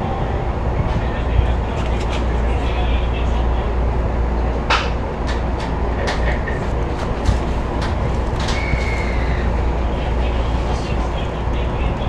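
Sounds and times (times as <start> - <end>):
low hum inside train car: 0.0 - 12.0.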